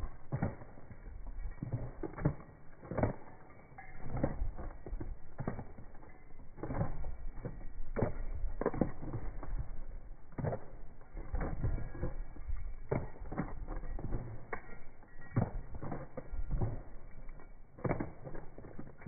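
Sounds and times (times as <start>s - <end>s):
hooves clopping on pavement: 0.0s - 19.0s.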